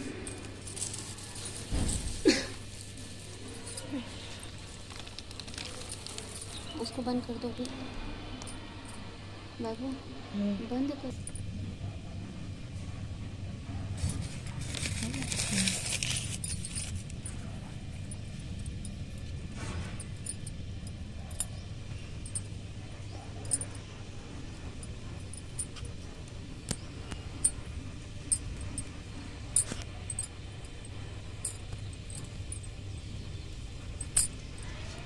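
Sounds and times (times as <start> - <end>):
handling clicks and rustles: 0.0 - 7.7, 14.0 - 35.0
steady low hum: 0.0 - 35.0.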